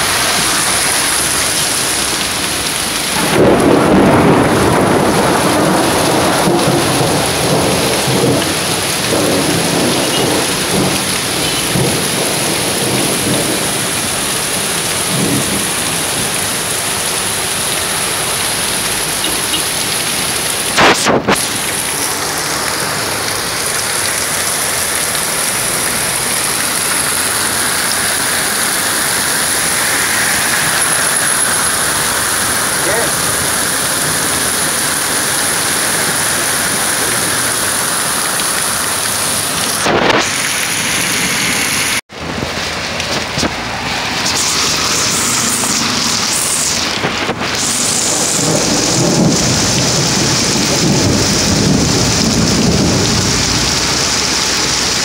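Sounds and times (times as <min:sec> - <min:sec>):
heavy rain hissing on street: 0:00.0 - 0:55.0.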